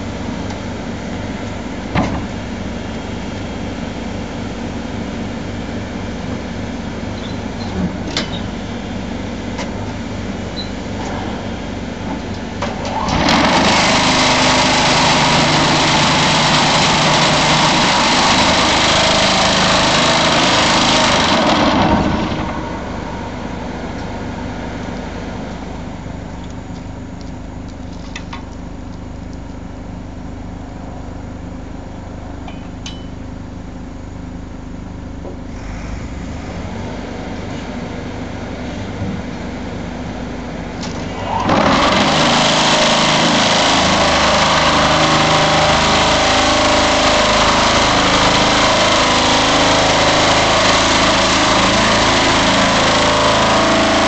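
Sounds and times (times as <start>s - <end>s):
machine engine running steadily: 0.0s - 54.0s.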